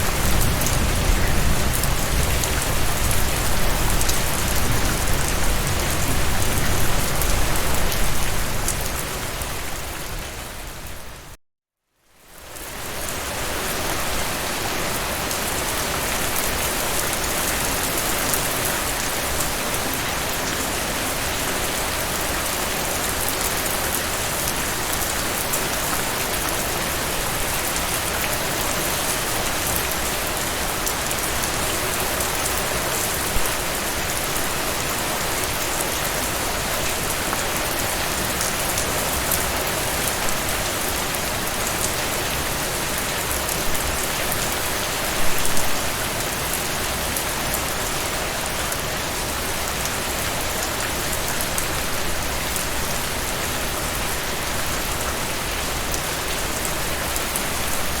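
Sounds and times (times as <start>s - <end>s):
rain pattering: 0.0s - 11.3s, 12.4s - 58.0s.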